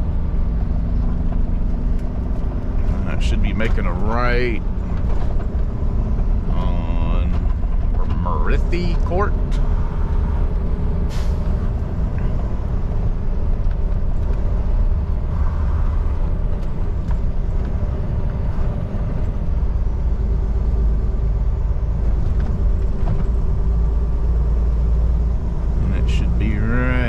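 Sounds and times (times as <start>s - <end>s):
diesel engine rumbling: 0.0s - 27.0s
road noise: 0.0s - 27.0s.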